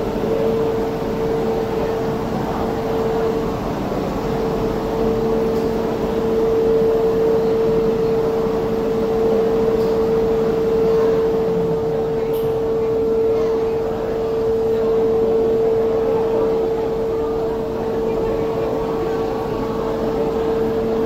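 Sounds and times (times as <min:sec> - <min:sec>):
steady machinery hum: 0:00.0 - 0:21.0.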